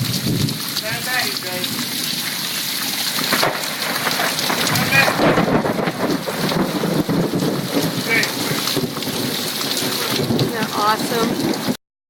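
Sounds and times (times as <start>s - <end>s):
heavy rain hissing: 0.0s - 11.8s
thunder rumble: 0.0s - 11.8s.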